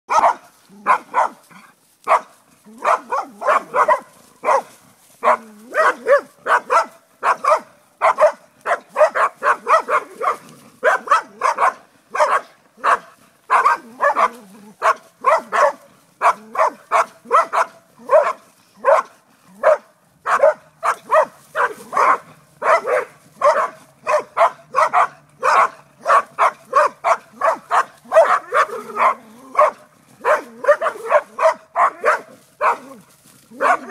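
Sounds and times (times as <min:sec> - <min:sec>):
dog barking: 0:00.1 - 0:01.4, 0:02.0 - 0:33.9.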